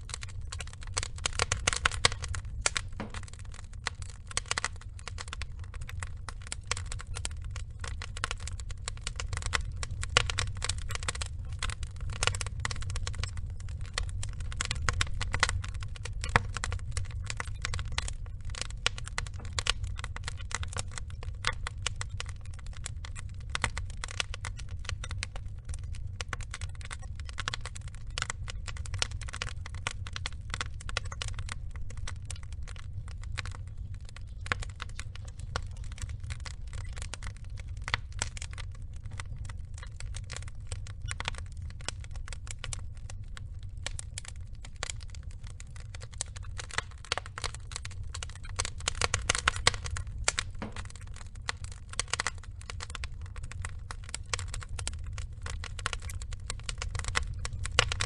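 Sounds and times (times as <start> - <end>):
log fire crackling: 0.0 - 58.0
low fire rumble: 0.0 - 58.0.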